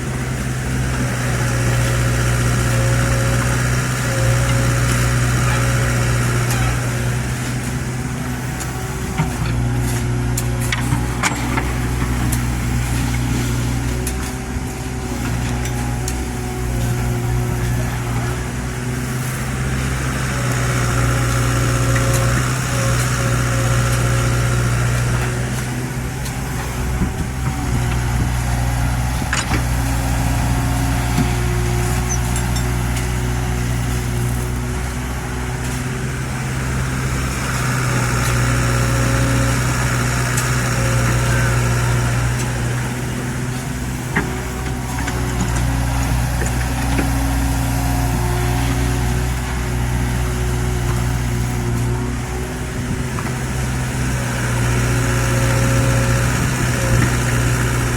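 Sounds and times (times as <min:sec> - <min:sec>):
excavator engine and hydraulics: 0:00.0 - 0:57.9.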